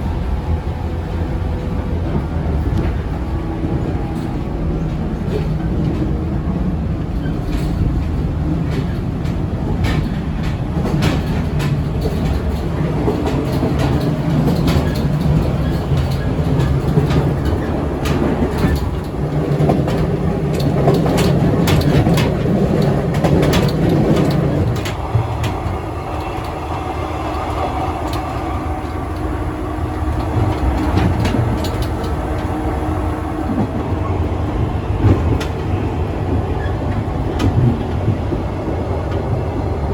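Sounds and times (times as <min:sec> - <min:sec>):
electric train running: 0:00.0 - 0:39.9
wheels clicking over rail joints: 0:00.3 - 0:39.9.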